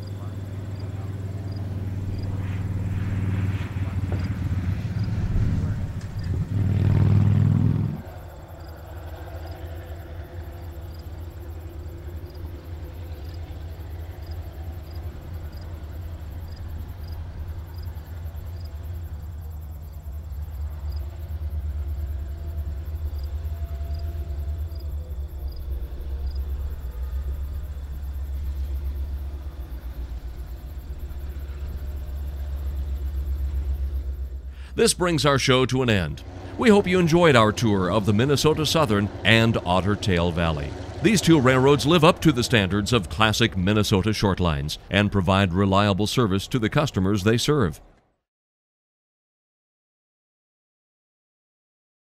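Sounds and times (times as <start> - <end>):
diesel locomotive rumble: 0.0 - 47.7.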